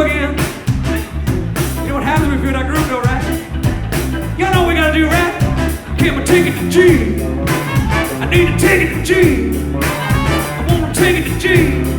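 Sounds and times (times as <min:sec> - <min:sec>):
live rock band playing: 0:00.0 - 0:11.9.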